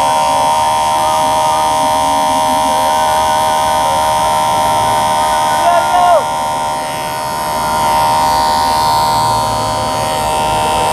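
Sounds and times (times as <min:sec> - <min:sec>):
hair clippers buzzing: 0:00.0 - 0:10.9.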